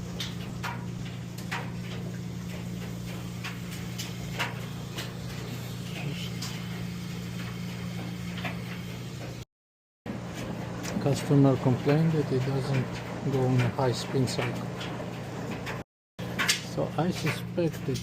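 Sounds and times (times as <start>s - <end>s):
washing machine humming: 0.0s - 9.5s, 10.1s - 18.0s.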